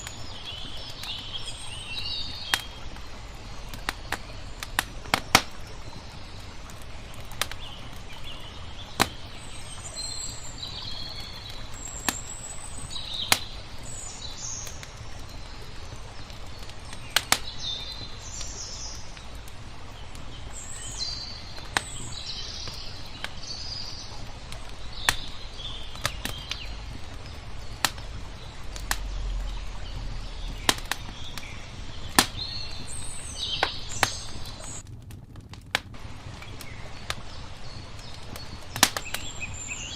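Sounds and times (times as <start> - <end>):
low wash of water: 0.0 - 34.9
small birds chirping: 0.0 - 35.1, 35.7 - 39.9
sharp pops from fire: 0.0 - 39.9
wood fire crackling: 0.0 - 39.9.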